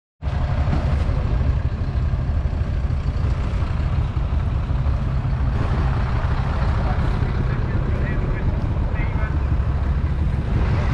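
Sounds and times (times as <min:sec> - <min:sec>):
tractor diesel engine running: 0:00.2 - 0:10.9.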